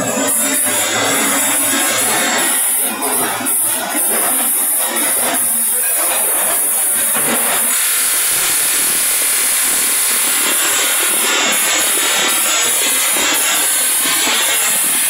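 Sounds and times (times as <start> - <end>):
polishing machine hiss: 0.0 - 15.0.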